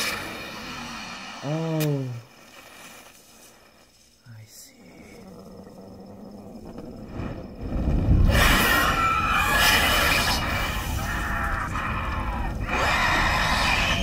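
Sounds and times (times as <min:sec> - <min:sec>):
horror film soundtrack: 0:00.0 - 0:03.8, 0:04.4 - 0:14.0.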